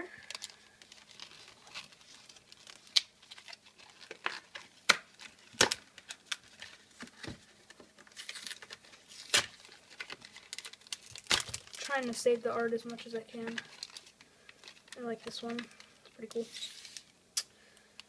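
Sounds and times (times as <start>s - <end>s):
foil wrapper crinkling and tearing: 0.2s - 17.1s.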